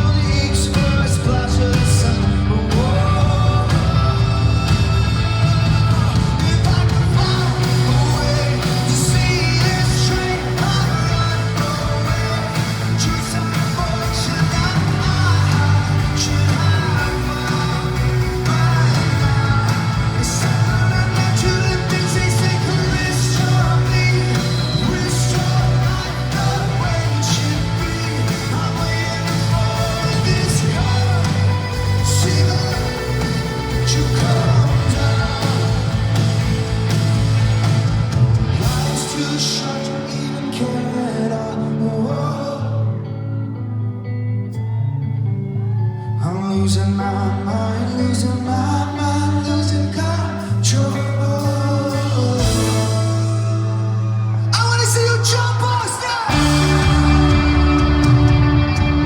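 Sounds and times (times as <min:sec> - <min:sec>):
person singing: 0:00.0 - 0:36.6, 0:38.6 - 0:43.3, 0:45.6 - 0:59.0
live rock band: 0:00.0 - 0:59.0.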